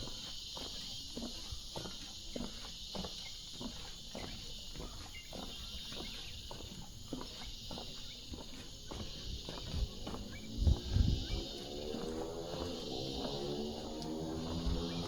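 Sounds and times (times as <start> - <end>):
footsteps crunching on leaf litter: 0.0 - 15.0
insect chorus drone: 0.0 - 15.0.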